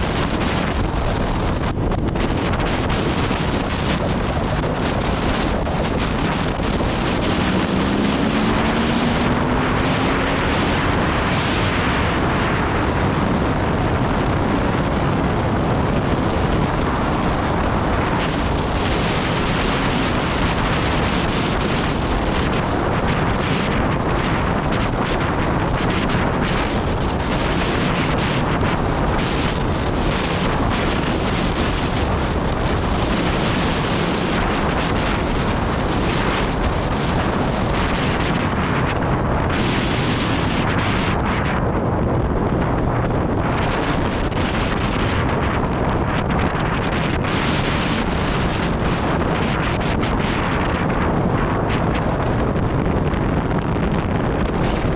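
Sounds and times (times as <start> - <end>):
motorcycle engine accelerating: 0.0 - 54.9
wind rushing over microphone: 0.0 - 54.9.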